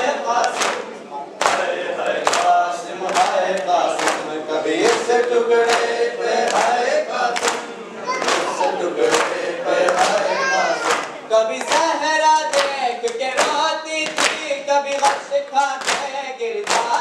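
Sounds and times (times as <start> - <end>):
men chanting in unison: 0.0 - 0.9, 1.5 - 17.0
rhythmic chest-beating slaps: 0.0 - 17.0.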